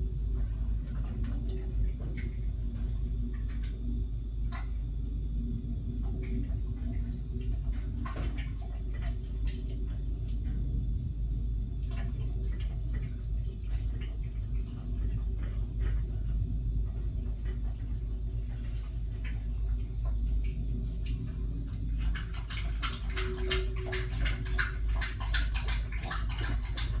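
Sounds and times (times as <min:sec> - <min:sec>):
low rumble: 0:00.0 - 0:27.0
pet lapping water: 0:00.0 - 0:27.0.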